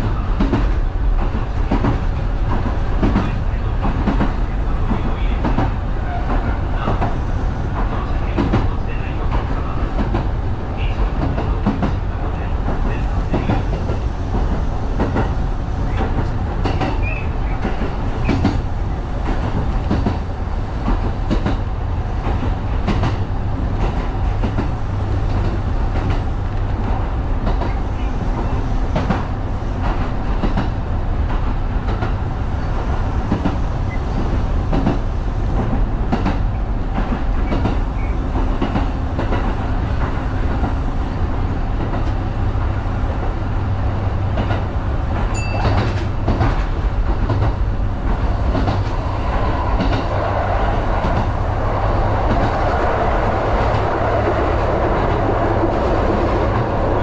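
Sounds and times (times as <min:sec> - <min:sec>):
wheels clacking over rail joints: 0:00.0 - 0:40.8, 0:41.4 - 0:57.0
train wheels rumbling on rails: 0:00.0 - 0:57.0.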